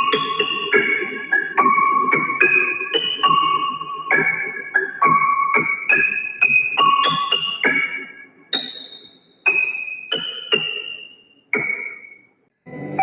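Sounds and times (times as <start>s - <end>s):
electric piano melody: 0.0s - 11.0s.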